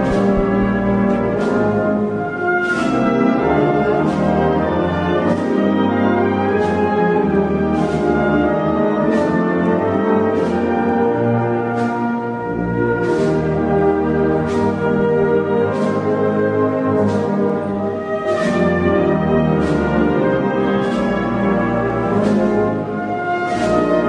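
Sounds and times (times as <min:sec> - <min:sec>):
brass band playing slow march: 0:00.0 - 0:24.0
percussion strokes: 0:00.0 - 0:24.0.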